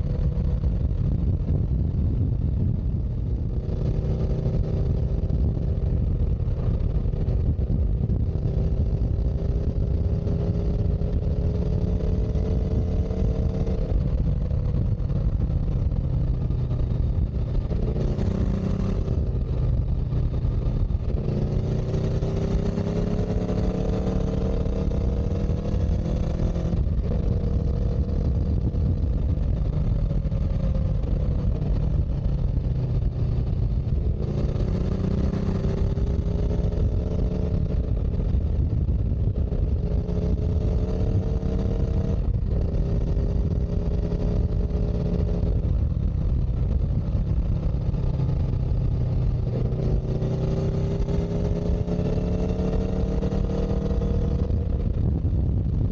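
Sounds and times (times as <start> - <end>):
vehicle engine rumbling: 0.0 - 55.9.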